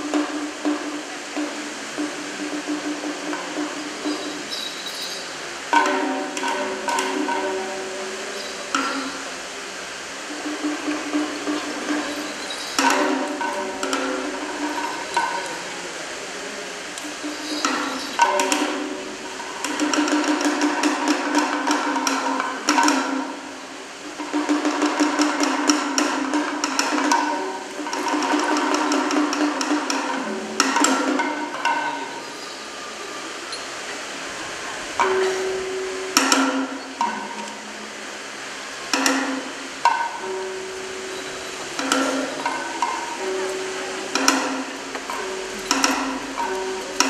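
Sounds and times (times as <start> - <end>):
percussion playing sharp ringing strikes: 0.0 - 16.1, 16.8 - 33.9, 34.7 - 47.0
small hand cymbals: 0.0 - 47.0.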